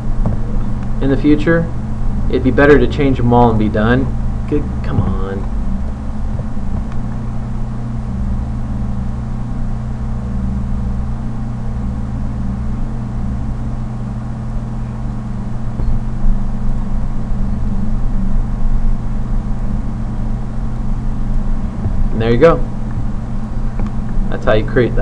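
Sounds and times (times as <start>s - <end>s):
low hum with faint hiss: 0.0s - 25.0s.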